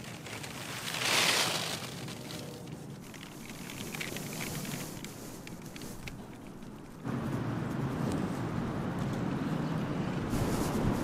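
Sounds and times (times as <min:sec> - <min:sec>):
wind rustling tent fabric: 0:00.0 - 0:11.0.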